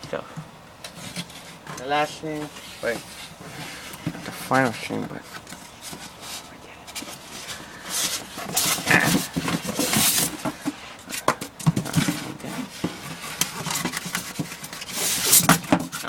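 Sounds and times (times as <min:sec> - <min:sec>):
cardboard box being handled: 0:02.3 - 0:16.0.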